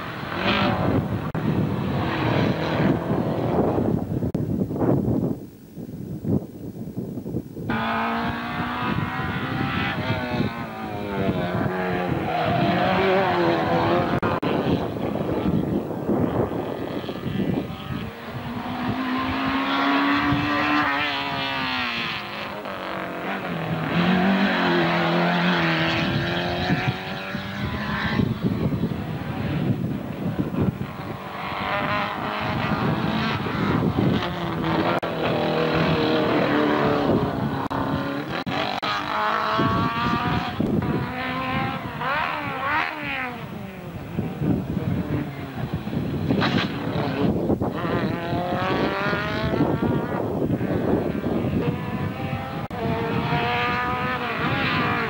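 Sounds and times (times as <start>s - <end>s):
race car engines accelerating: 0.0s - 4.4s, 7.7s - 55.0s.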